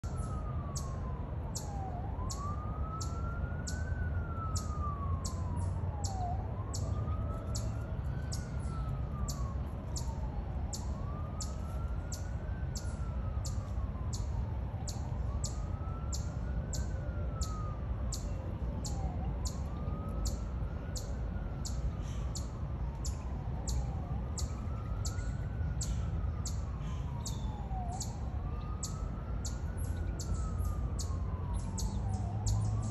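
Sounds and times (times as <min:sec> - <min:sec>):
ambulance siren wailing: 0:00.0 - 0:32.9.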